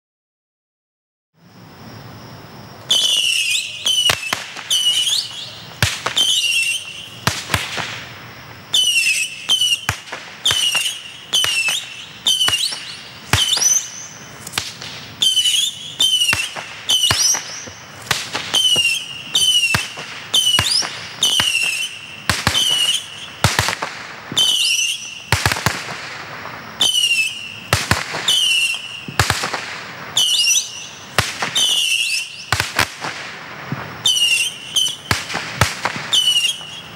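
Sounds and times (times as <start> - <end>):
firework missiles whistling: 1.4 - 36.9
firework cracks and bangs: 2.8 - 36.9.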